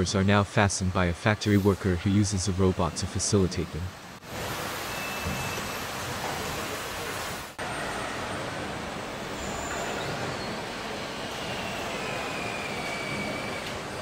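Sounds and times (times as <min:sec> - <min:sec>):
factory hall background noise: 0:00.0 - 0:14.0.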